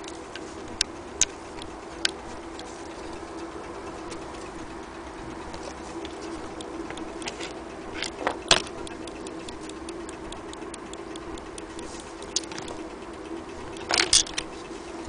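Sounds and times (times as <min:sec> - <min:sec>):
mantle clock ticking: 0:00.0 - 0:15.0.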